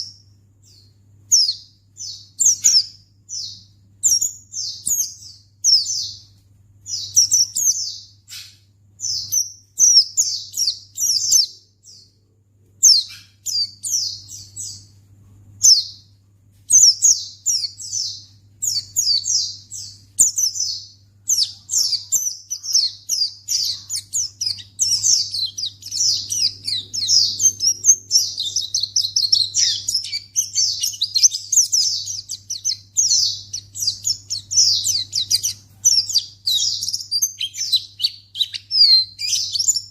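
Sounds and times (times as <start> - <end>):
bird chirping song: 0.0 - 39.9
faint low hum: 0.0 - 39.9.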